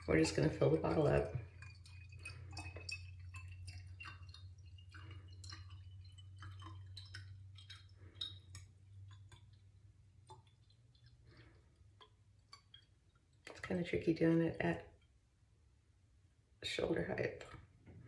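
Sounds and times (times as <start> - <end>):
water trickling into a bottle: 0.0 - 15.2
low steady hum: 0.0 - 18.0.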